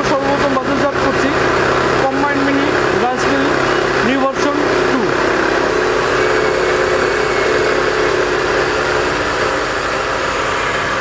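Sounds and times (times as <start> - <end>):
rice mill machine humming: 0.0 - 11.0.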